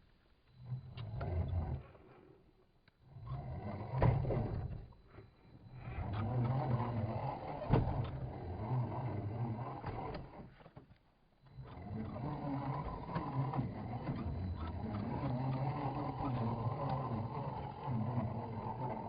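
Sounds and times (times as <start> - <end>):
electric motor and gears running: 3.1 - 19.0.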